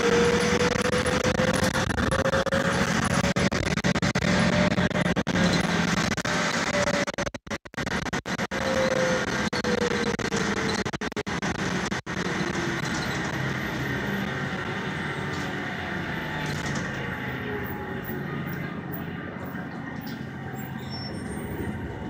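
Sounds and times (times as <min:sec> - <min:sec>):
bus engine and road noise: 0:00.0 - 0:22.0
drivetrain whine: 0:00.0 - 0:22.0.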